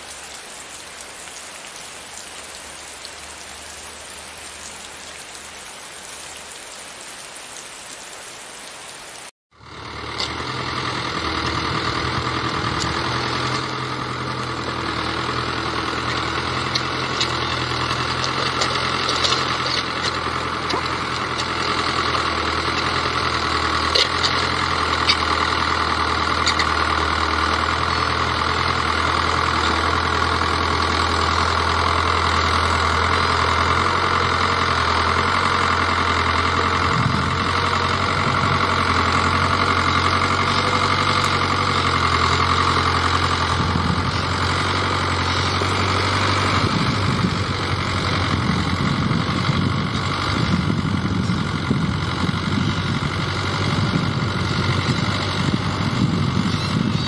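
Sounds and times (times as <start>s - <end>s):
tractor diesel engine running: 9.5s - 57.0s.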